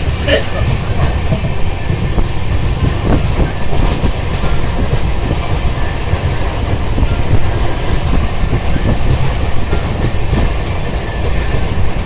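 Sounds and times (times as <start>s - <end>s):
passenger train rumbling: 0.0s - 12.0s
wheels clacking over rail joints: 0.3s - 12.0s.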